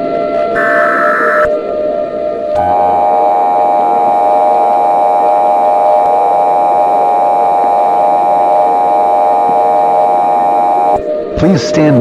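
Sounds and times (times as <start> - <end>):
electronic drone of held tones: 0.0 - 11.4
static hiss: 0.5 - 11.0.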